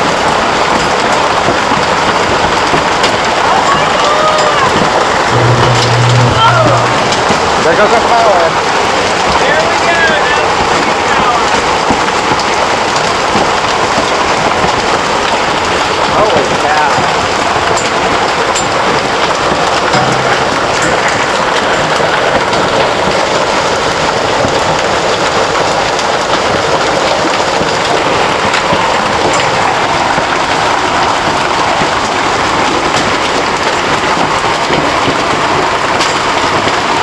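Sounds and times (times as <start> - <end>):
hail and rain pelting down: 0.0 - 37.0
hailstones clicking: 0.0 - 37.0.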